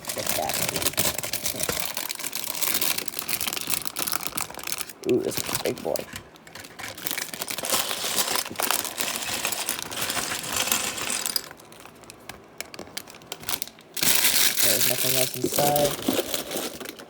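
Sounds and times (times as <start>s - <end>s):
plastic bag crinkling: 0.0s - 17.0s
plastic pieces clattering: 0.0s - 17.0s.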